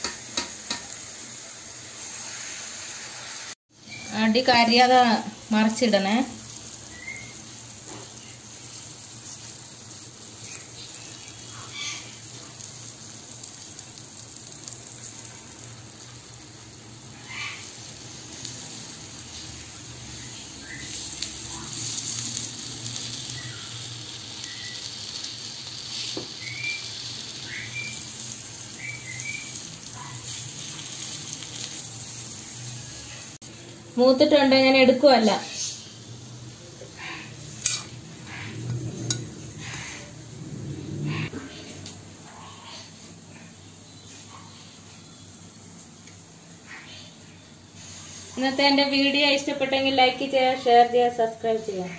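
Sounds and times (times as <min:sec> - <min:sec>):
hot oil sizzling: 0:00.0 - 0:51.9.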